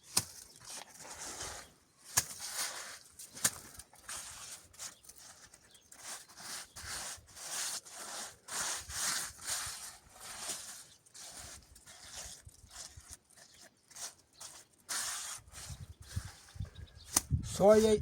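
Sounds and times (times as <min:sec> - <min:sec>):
hand tool scraping mortar: 0:00.0 - 0:18.0.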